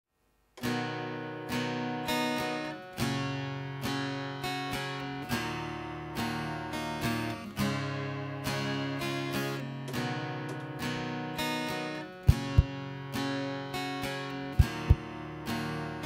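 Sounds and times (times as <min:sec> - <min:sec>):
acoustic guitar strumming: 0:00.6 - 0:16.0.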